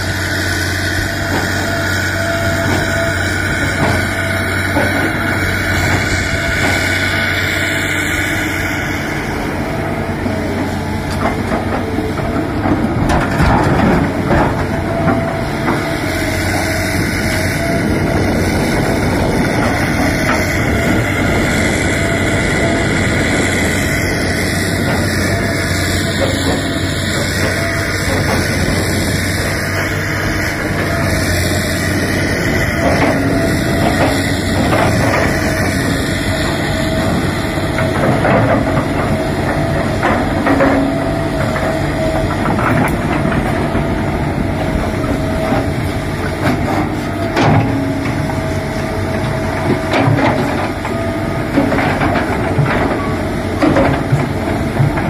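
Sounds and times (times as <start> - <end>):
excavator diesel engine whine: 0.0 - 55.0.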